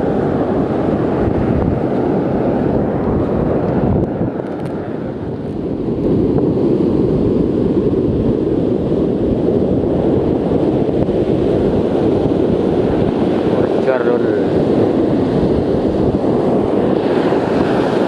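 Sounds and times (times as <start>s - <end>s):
surf breaking on shore: 0.0s - 18.0s
wind buffeting microphone: 0.0s - 18.0s.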